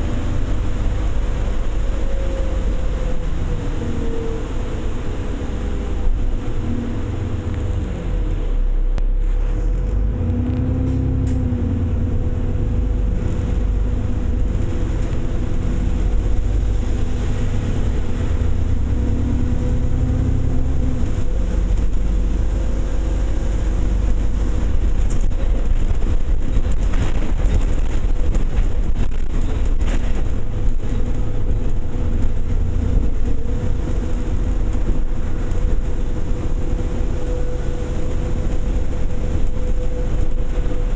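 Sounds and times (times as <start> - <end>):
bus engine and road drone: 0.0 - 40.9
steady whine: 0.0 - 40.9.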